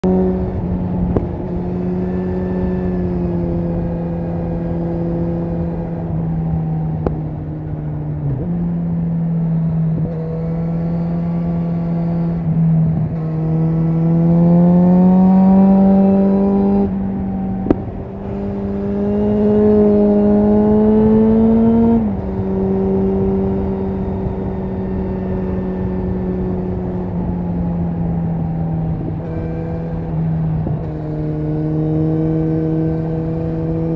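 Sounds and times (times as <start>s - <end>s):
motorcycle accelerating: 0.0s - 33.9s
motorcycle exhaust cruising: 0.0s - 33.9s.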